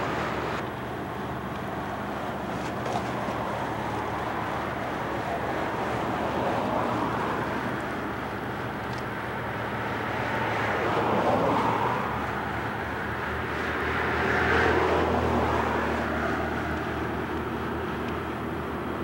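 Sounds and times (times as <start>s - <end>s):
low engine hum: 0.0s - 19.0s
vehicles passing: 0.0s - 19.0s.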